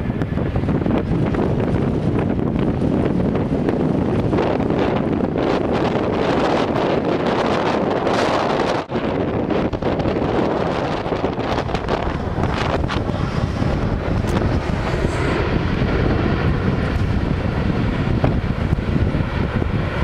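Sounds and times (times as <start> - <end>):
jet aircraft rumble: 0.0 - 20.0
wind buffeting microphone: 0.0 - 20.0
wind knocks on microphone: 0.0 - 20.0.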